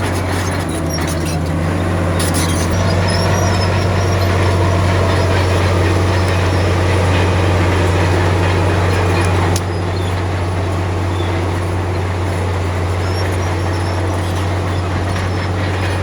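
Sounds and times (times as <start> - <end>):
diesel bulldozer engine running: 0.0 - 16.0.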